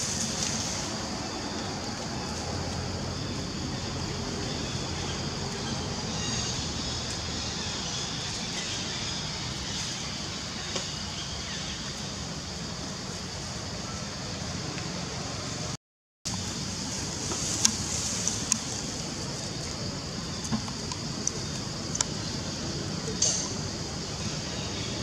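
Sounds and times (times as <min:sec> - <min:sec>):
high steady hiss: 0:00.0 - 0:25.0.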